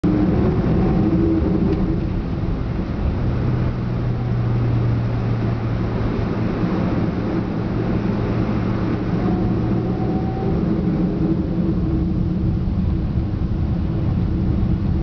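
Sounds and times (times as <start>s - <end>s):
jet engines heard from cabin: 0.0s - 15.0s
low drone: 0.0s - 15.0s.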